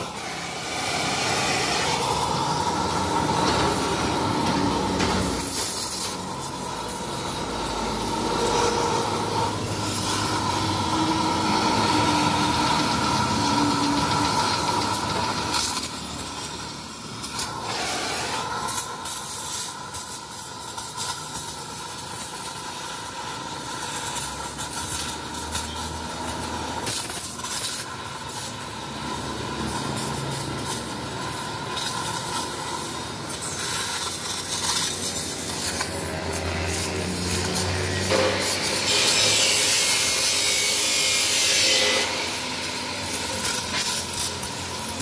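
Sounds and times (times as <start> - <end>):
power tool whine: 0.0 - 19.7, 22.6 - 45.0
harsh metal cutting hiss: 0.0 - 45.0.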